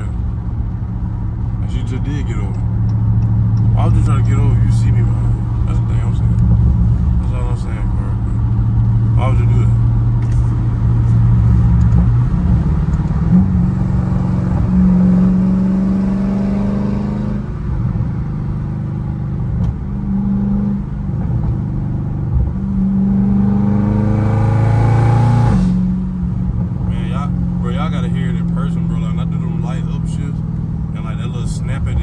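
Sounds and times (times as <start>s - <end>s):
car engine heard from cabin: 0.0s - 32.0s.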